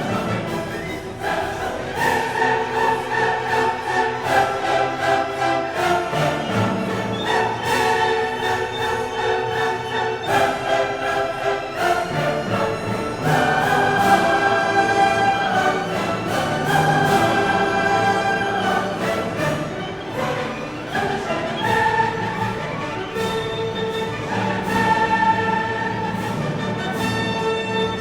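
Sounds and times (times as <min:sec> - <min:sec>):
orchestral string chords: 0:00.0 - 0:28.0.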